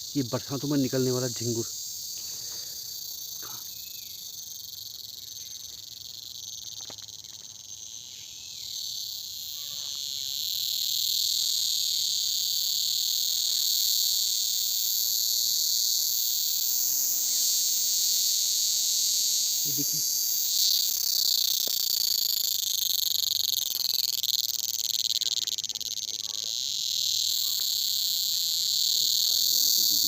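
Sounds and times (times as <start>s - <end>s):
shrill cricket chorus: 0.0s - 30.0s.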